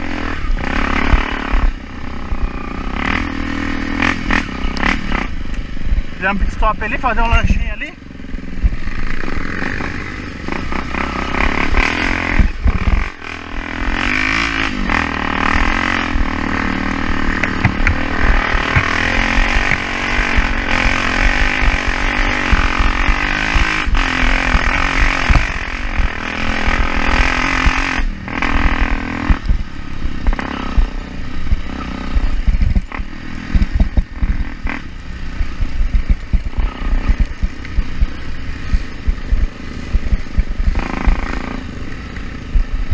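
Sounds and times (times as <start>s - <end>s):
heavy low rumble: 0.0s - 42.9s
motorcycle engine revving: 0.0s - 42.9s.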